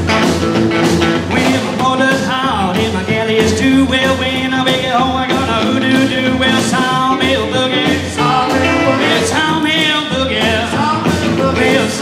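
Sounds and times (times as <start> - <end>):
drum kit steady beat: 0.0 - 12.0
electric guitar: 0.0 - 12.0
upright bass: 0.0 - 12.0.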